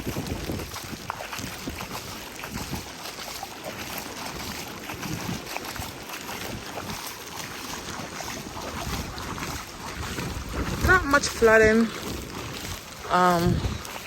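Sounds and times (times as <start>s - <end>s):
footsteps wading through water: 0.0s - 14.0s.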